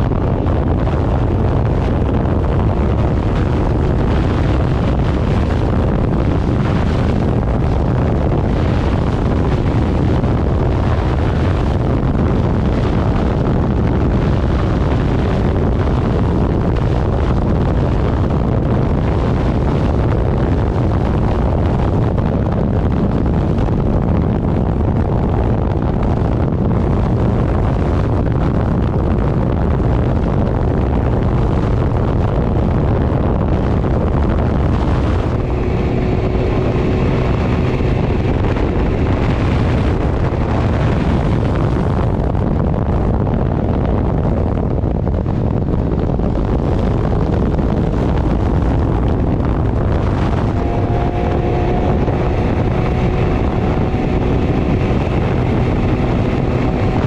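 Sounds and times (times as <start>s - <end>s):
vehicle engine and road noise: 0.0s - 57.0s
wind rushing over microphone: 0.0s - 57.0s.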